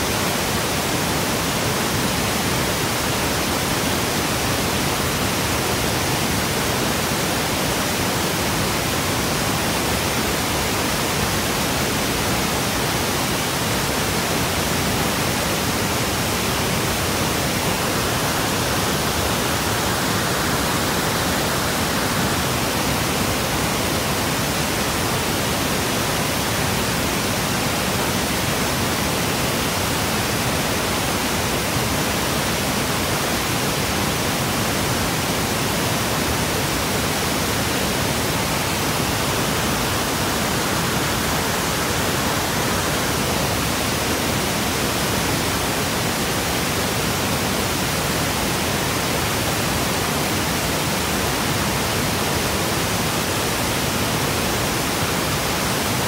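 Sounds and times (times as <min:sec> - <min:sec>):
waterfall rushing water: 0:00.0 - 0:56.0.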